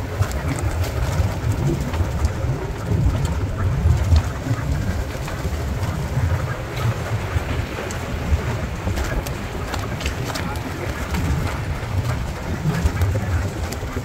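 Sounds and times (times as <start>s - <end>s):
engine and rough road rumble: 0.0s - 14.0s
wind buffeting microphone: 0.0s - 14.0s.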